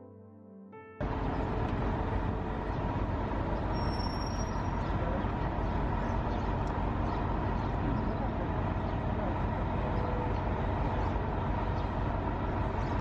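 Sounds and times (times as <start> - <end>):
bus engine rumble: 1.0 - 13.0
street traffic: 1.0 - 13.0.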